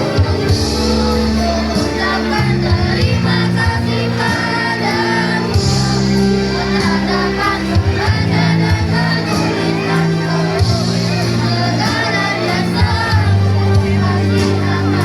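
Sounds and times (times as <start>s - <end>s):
children's choir singing: 0.0s - 15.0s
instrumental accompaniment: 0.0s - 15.0s.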